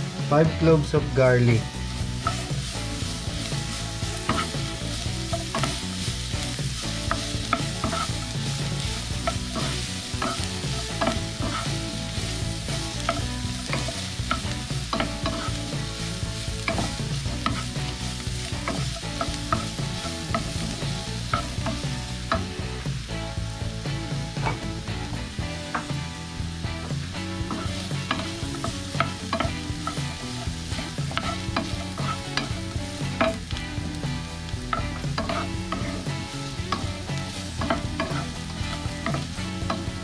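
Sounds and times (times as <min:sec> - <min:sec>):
potatoes sizzling in oil: 0:00.0 - 0:40.0
wooden spatula scraping pan: 0:00.7 - 0:22.6, 0:26.7 - 0:33.6, 0:34.6 - 0:40.0.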